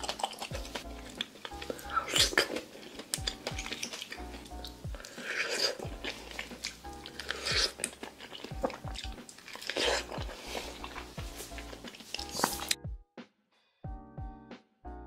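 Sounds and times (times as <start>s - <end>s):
chewing soft mango: 0.0s - 12.8s
background music: 0.0s - 15.0s.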